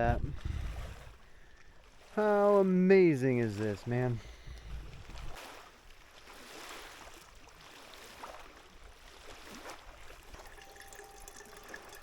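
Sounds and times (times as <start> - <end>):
lake water sloshing and trickling: 0.0 - 12.0.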